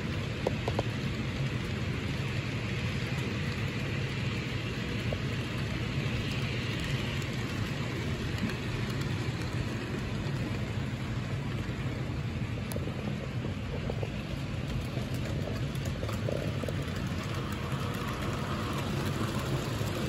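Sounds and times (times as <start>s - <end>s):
model trains humming: 0.0s - 20.0s.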